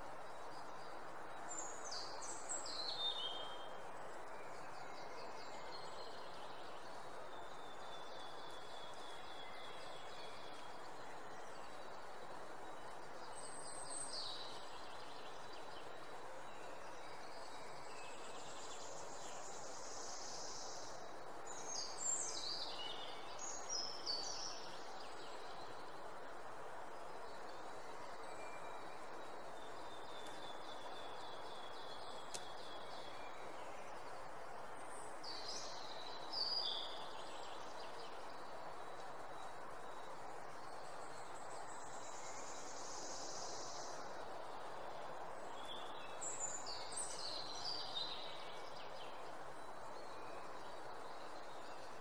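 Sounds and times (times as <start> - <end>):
small bird singing: 0.0 - 26.0, 27.0 - 44.4, 45.4 - 52.0
outdoor background hiss: 0.0 - 52.0.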